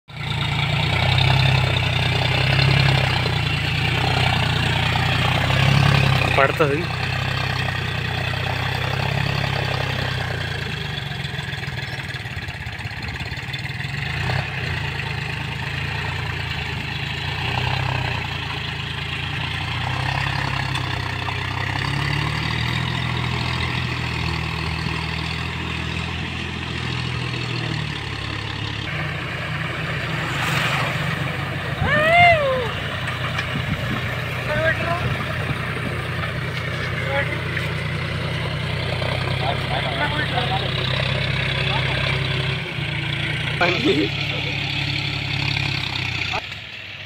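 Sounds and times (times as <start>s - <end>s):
tractor diesel engine under load: 0.1s - 47.0s.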